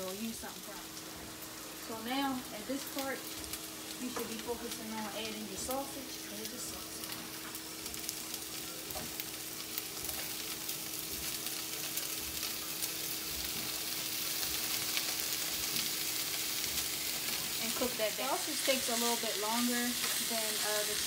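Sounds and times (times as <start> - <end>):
sausage and peppers sizzling in skillet: 0.0 - 21.0.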